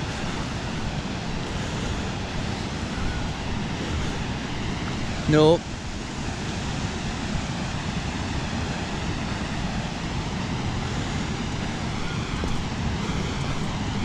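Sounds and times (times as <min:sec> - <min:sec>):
waterfall and river roaring: 0:00.0 - 0:14.0.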